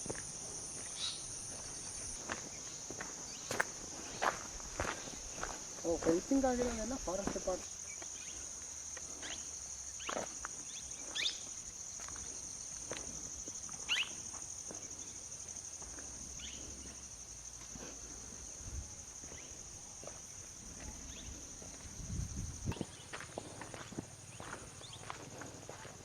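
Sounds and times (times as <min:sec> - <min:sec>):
insect chorus drone: 0:00.0 - 0:26.0.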